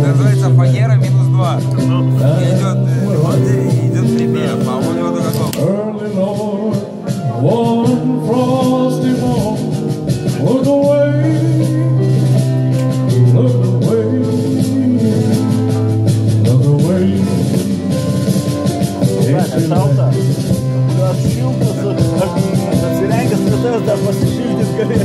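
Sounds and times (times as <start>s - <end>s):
backing track with steady beat: 0.0s - 25.0s
man singing into a microphone: 1.8s - 18.4s, 19.0s - 25.0s.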